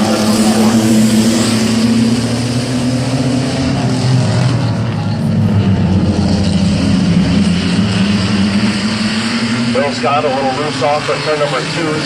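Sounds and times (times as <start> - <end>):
racing truck engines accelerating: 0.0 - 12.0.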